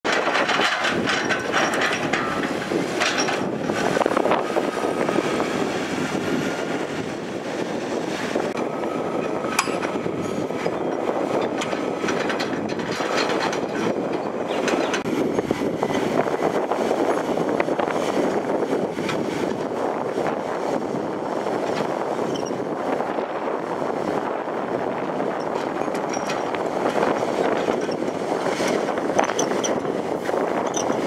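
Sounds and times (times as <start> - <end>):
diesel machinery rattling: 0.1 - 31.0.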